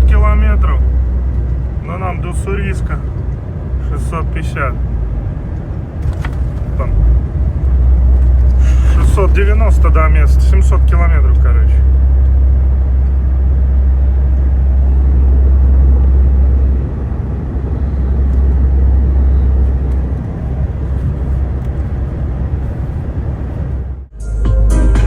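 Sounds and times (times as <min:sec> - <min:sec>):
road rumble: 0:00.0 - 0:24.1
truck engine drone: 0:00.0 - 0:25.0.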